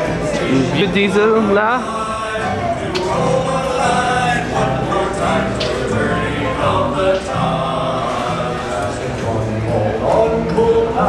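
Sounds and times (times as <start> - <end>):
choir singing held notes: 0.0 - 11.0.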